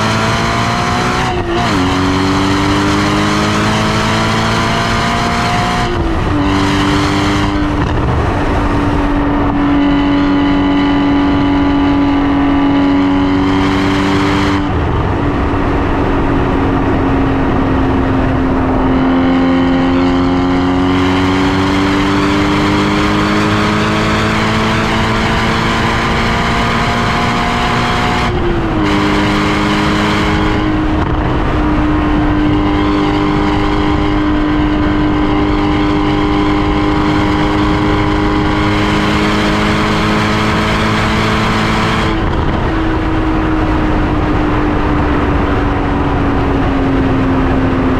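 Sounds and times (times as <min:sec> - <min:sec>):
car engine running under load: 0:00.0 - 0:47.9.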